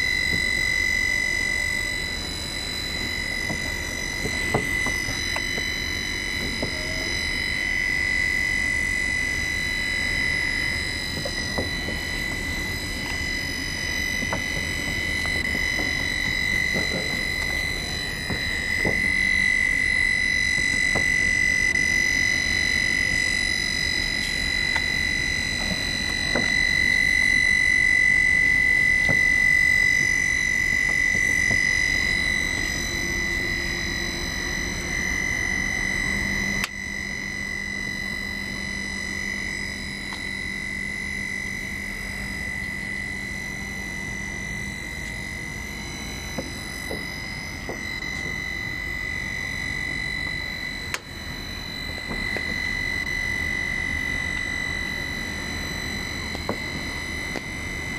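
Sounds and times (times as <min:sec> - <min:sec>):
roof seam welding machine whine: 0:00.0 - 0:57.9.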